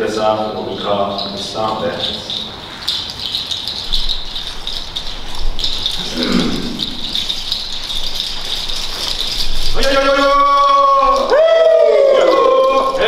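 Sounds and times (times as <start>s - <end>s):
rattle shaken fast: 0.0s - 13.0s.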